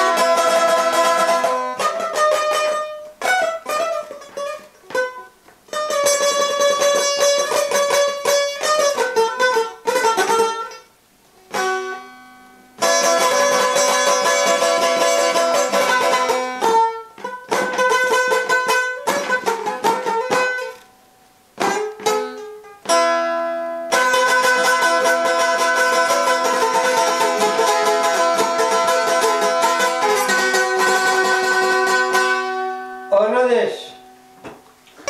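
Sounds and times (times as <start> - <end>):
long-necked lute strumming: 0.0 - 35.0.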